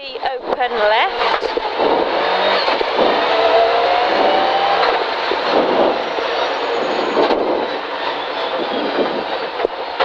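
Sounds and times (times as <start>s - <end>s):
car engine at full throttle: 0.4s - 10.0s.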